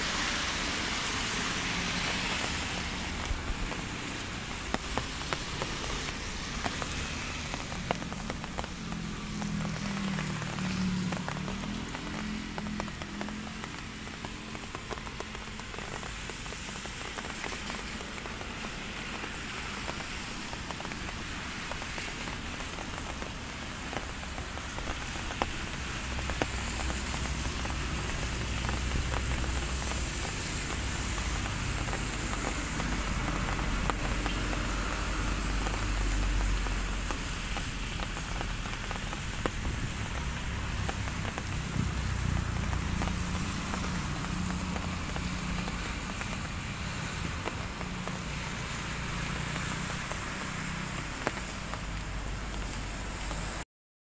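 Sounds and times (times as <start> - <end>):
light rain pattering: 0.0 - 53.6.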